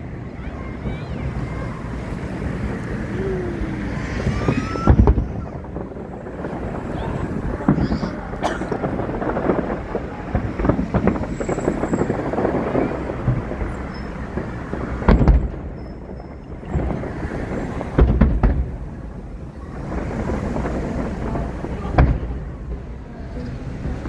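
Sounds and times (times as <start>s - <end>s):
fireworks heavy booms: 0.0s - 24.0s
fireworks crackling pops: 0.6s - 24.0s.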